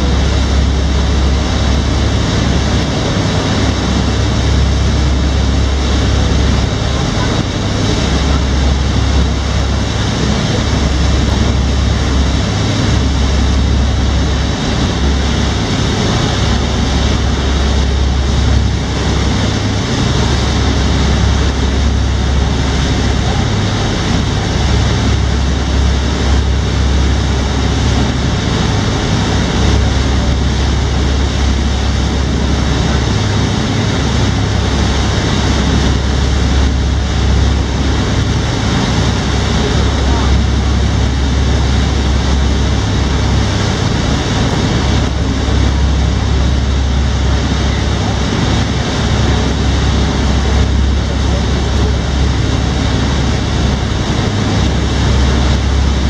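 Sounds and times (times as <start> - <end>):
boat engines rumbling: 0.0 - 56.0
wake water rushing: 0.0 - 56.0.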